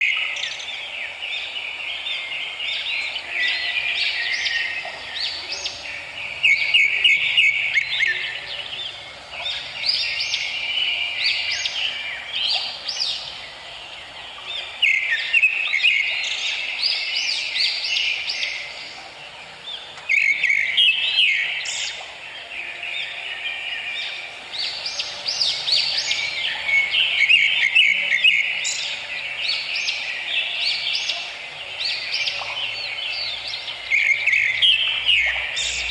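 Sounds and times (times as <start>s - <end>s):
birds chirping and singing: 0.0s - 35.9s.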